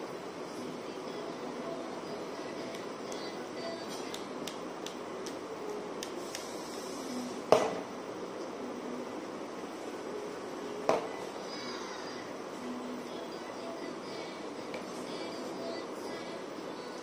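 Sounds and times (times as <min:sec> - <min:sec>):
fan-like room noise: 0:00.0 - 0:17.0.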